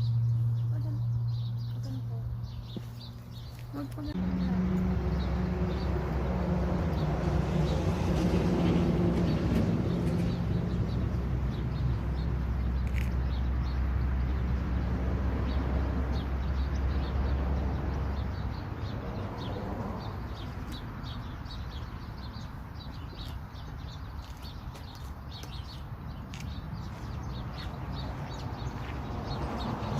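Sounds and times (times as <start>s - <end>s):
small birds chirping: 0.0s - 7.8s, 9.2s - 29.9s.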